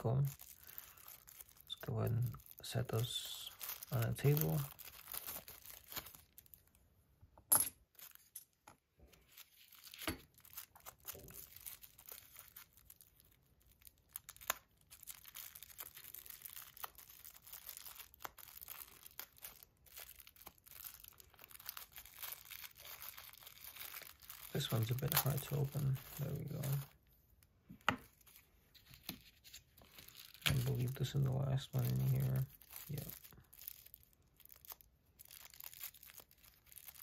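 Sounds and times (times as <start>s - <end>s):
tissue paper crackling: 0.0s - 6.8s, 9.1s - 27.0s, 28.1s - 37.0s.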